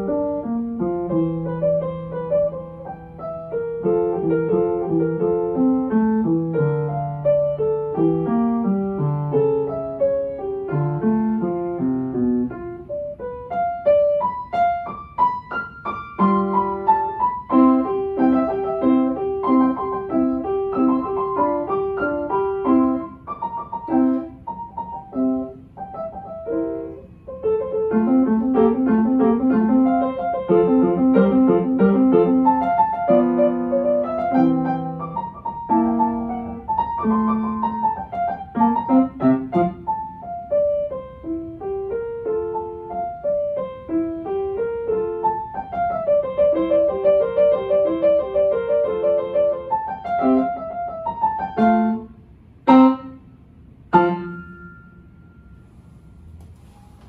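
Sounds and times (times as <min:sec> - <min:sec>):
upright piano playing: 0:00.0 - 0:56.3.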